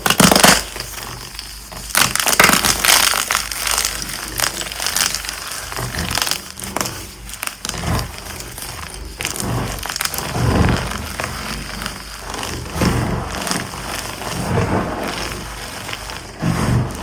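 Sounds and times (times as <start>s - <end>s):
chalk blocks crunching: 0.0s - 17.0s.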